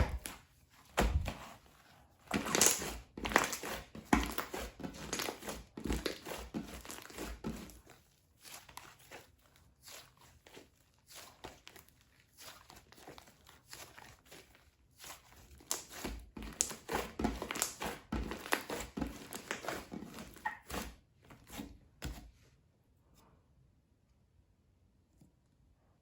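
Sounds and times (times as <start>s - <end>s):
hands squishing slime: 0.0s - 22.2s.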